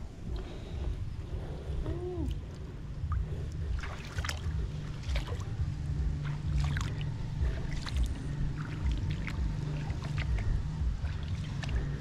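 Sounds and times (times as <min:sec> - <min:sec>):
low rumble: 0:00.0 - 0:12.0
water and mud splashing: 0:01.8 - 0:12.0.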